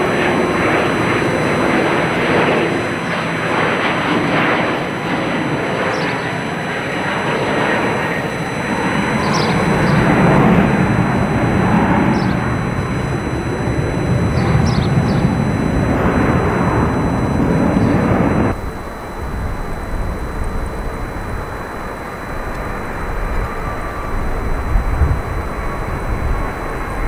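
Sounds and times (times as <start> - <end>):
loud jet rumble: 0.0 - 27.0
quiet jet noise: 0.0 - 27.0.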